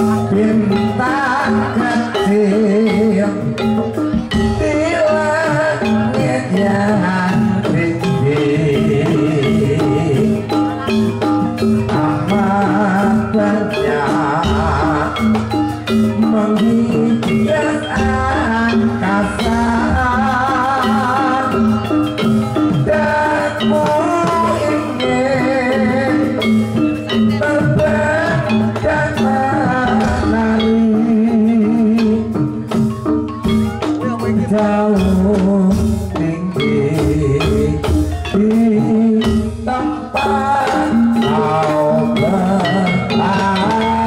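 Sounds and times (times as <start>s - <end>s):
drums and percussion: 0.0s - 44.0s
metallophones playing melody: 0.0s - 44.0s.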